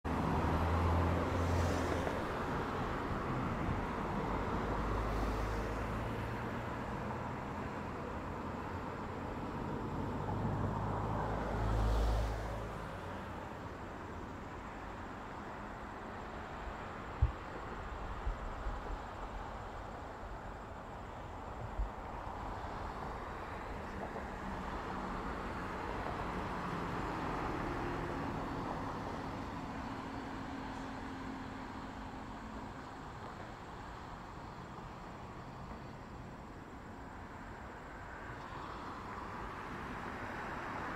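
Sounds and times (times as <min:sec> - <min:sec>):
traffic tyre noise: 0:00.0 - 0:40.9.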